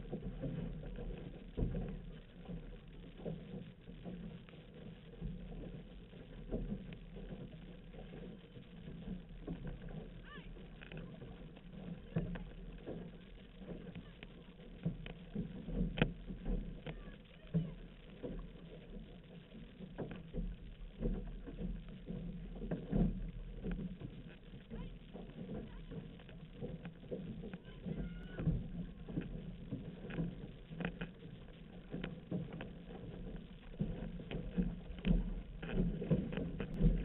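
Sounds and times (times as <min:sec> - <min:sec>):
paddle strokes and knocks: 0:00.0 - 0:37.0
water rushing along hull: 0:00.0 - 0:37.0
wind rumble on microphone: 0:00.0 - 0:37.0.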